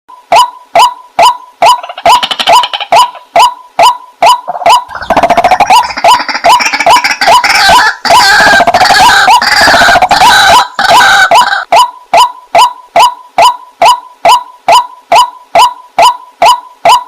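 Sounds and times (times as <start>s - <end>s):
waterhen calling: 1.2s - 15.8s.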